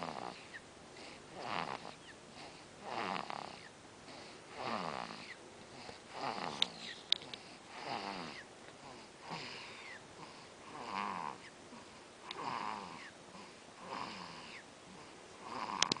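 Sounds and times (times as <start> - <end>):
rhythmic snoring: 0.0 - 16.0.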